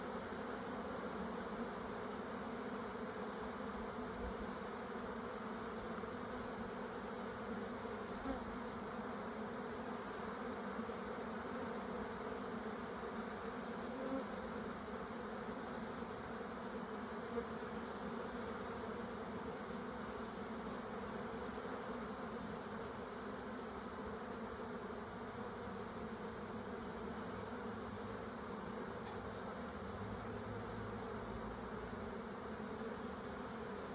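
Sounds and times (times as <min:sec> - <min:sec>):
honeybees buzzing: 0:00.0 - 0:33.9.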